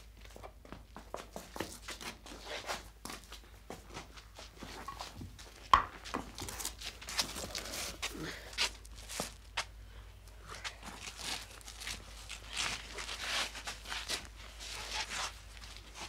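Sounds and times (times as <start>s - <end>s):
shuffling footsteps: 0.0s - 16.0s.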